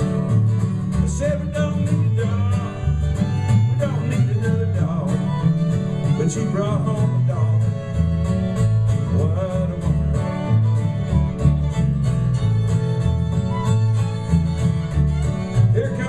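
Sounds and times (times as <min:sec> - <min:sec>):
fiddle: 0:00.0 - 0:16.0
strummed acoustic guitars: 0:00.0 - 0:16.0
walking bass line: 0:00.0 - 0:16.0.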